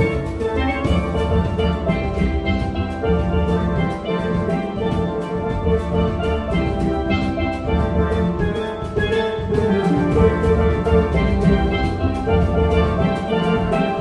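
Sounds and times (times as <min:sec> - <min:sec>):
steady drum beat: 0:00.0 - 0:14.0
steel pans ringing: 0:00.0 - 0:14.0.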